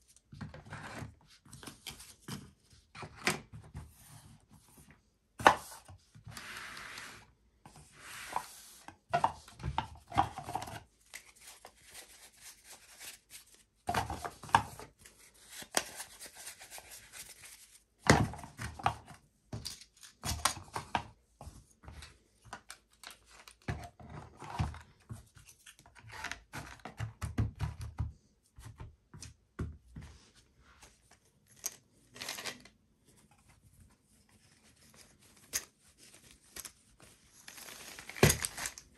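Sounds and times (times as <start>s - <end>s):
plastic trays and cards handled: 0.0s - 38.9s.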